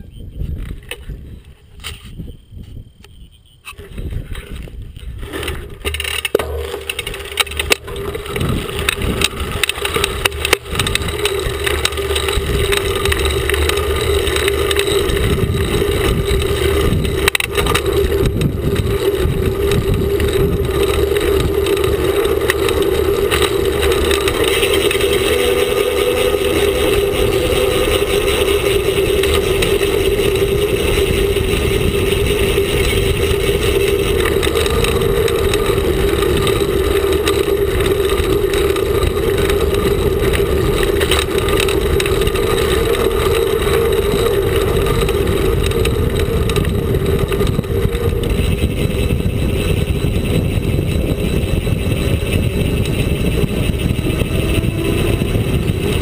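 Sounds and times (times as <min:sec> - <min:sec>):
bike clicks and rattles: 0:00.0 - 0:56.0
bike tyre humming on road: 0:00.0 - 0:56.0
wind rumble on microphone: 0:00.0 - 0:56.0.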